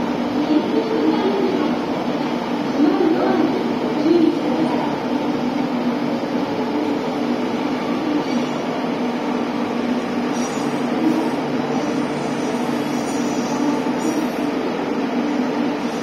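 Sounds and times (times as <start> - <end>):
electric train hum: 0.0 - 16.0.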